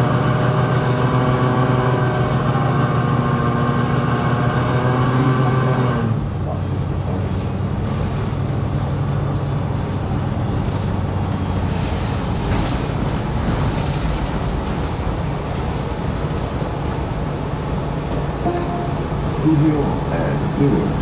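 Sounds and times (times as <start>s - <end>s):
bus engine hum: 0.0s - 21.0s
road noise rumble: 0.0s - 21.0s.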